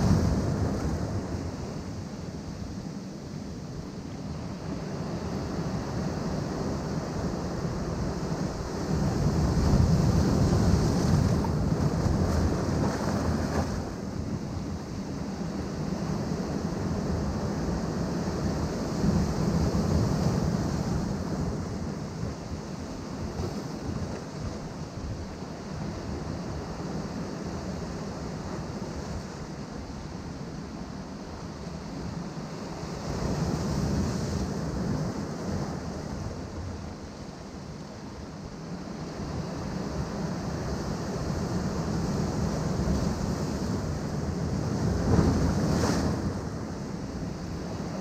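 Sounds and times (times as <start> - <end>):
wind on microphone: 4.4 - 37.1, 38.8 - 48.0.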